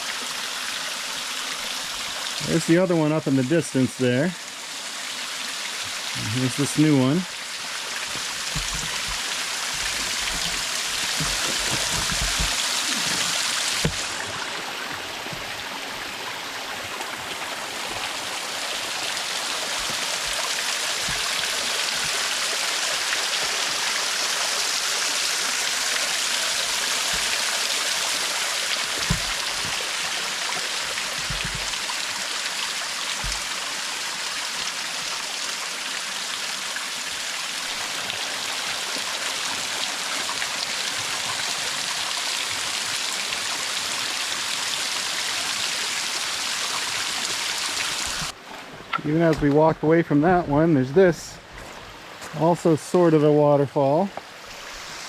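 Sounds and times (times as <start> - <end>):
waterfall pouring and splashing: 0.0 - 55.0.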